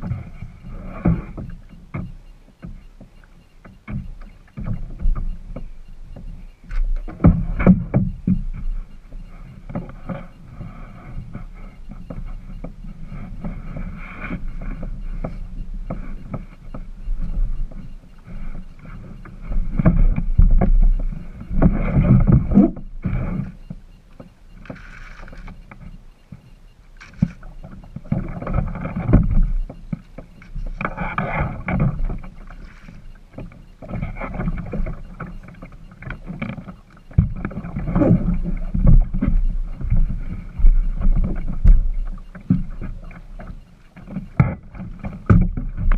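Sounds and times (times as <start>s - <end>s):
kayak paddle strokes: 0.0s - 45.9s
water splashing around boat: 0.0s - 45.9s.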